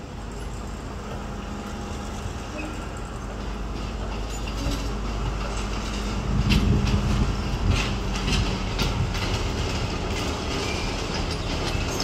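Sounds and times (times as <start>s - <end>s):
wheels clicking over rail joints: 0.0s - 12.0s.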